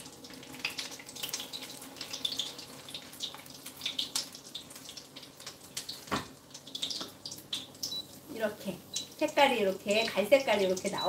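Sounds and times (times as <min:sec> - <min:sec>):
rice balls frying in oil: 0:00.0 - 0:11.0.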